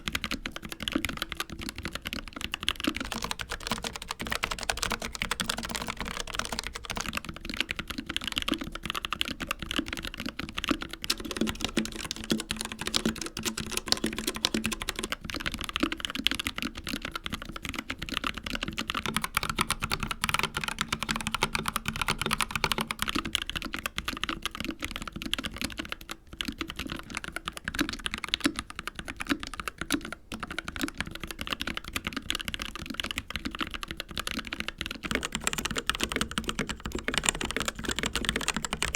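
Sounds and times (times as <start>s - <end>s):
fast typing on mechanical keyboards: 0.0s - 38.9s.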